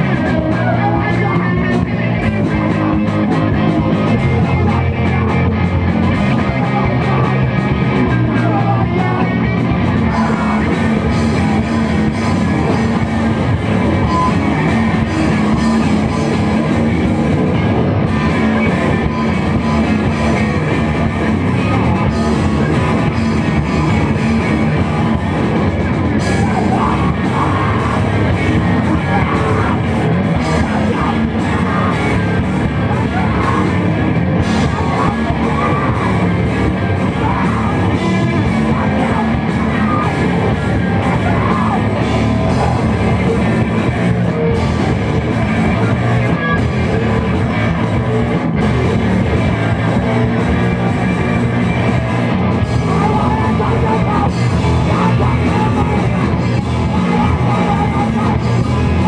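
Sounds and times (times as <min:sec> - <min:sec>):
rock band playing: 0:00.0 - 0:59.0
singer yelling and singing: 0:00.0 - 0:59.0.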